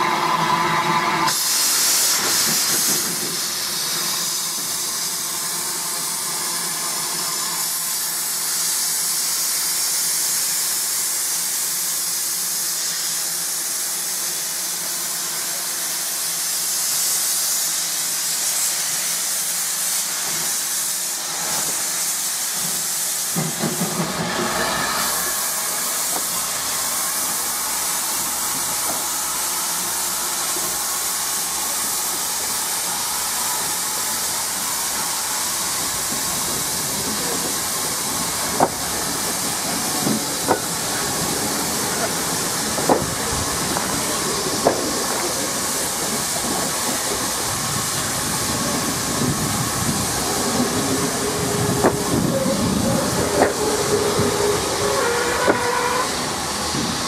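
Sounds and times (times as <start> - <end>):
steam hissing from engine: 0.0 - 57.0.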